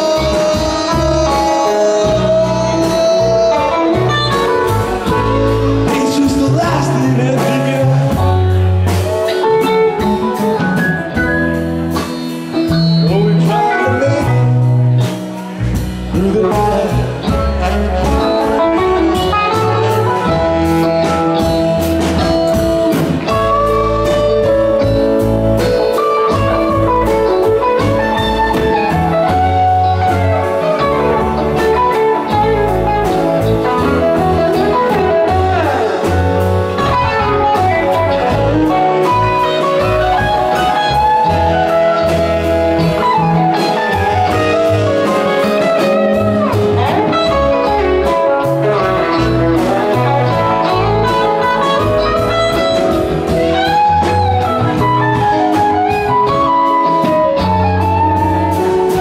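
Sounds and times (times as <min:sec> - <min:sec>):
lead guitar bending notes: 0:00.0 - 0:59.0
live rock band playing: 0:00.0 - 0:59.0.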